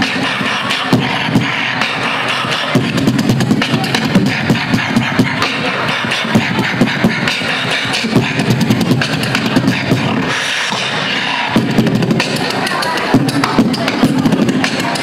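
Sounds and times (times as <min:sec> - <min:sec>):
beatboxing into a microphone: 0:00.0 - 0:15.0.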